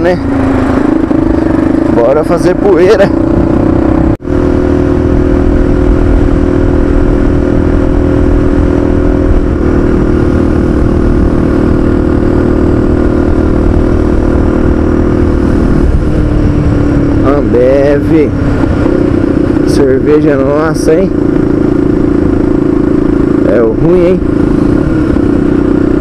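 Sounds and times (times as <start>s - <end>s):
motorcycle engine running: 0.0s - 26.0s
wind rumbling on microphone: 0.0s - 26.0s.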